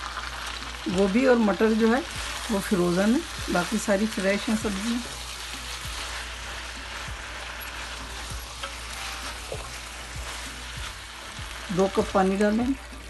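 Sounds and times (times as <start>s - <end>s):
food sizzling in a pan: 0.0s - 13.0s
spatula stirring food: 0.0s - 13.0s.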